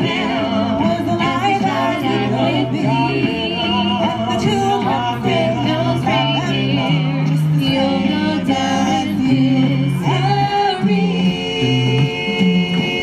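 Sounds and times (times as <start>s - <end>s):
people singing: 0.0s - 13.0s
stepping bass line: 0.0s - 13.0s.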